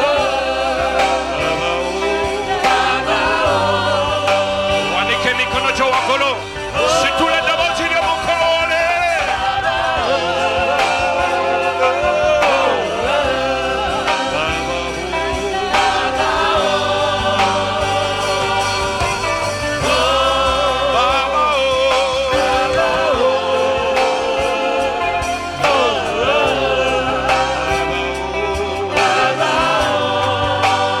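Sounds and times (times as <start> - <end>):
choir singing worship song: 0.0 - 31.0
steady bass accompaniment: 0.0 - 31.0.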